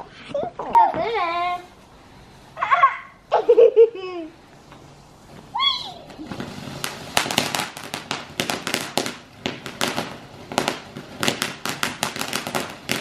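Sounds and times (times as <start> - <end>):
firework fountain hissing: 0.0 - 13.0.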